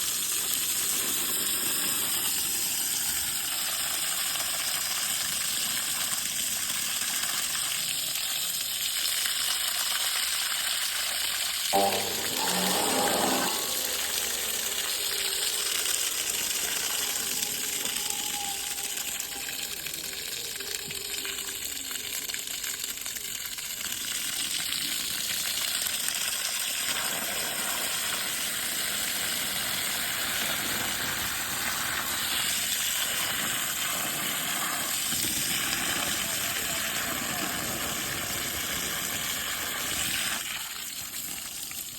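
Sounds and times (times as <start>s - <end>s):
water spraying with even hiss: 0.0s - 41.9s.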